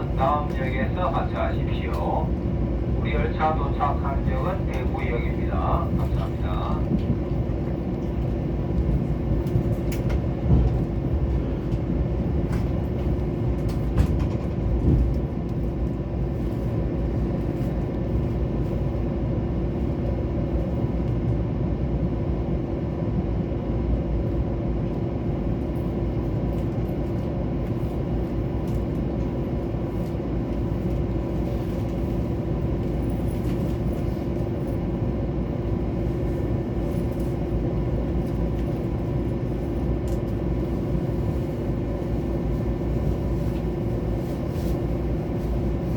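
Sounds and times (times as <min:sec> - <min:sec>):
train rumbling inside carriage: 0:00.0 - 0:45.9.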